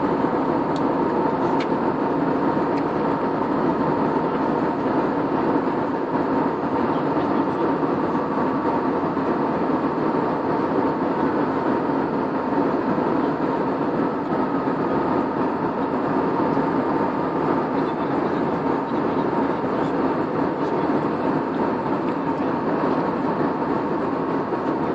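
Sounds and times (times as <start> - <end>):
engine and airflow rush: 0.0 - 24.9.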